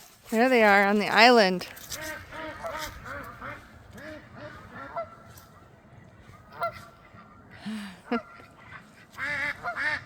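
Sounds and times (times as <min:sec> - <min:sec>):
waterfowl honking: 0:01.9 - 0:10.0.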